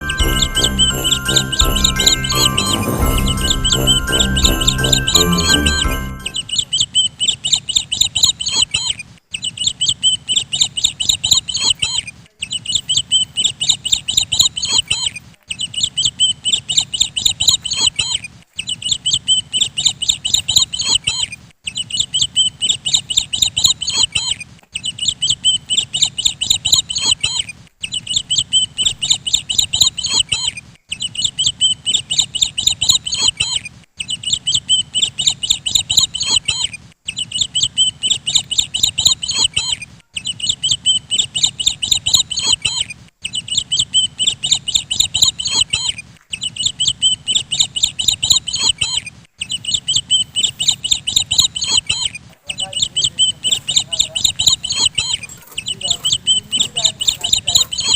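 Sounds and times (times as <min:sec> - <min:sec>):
high bird chirping: 0:00.0 - 0:57.9.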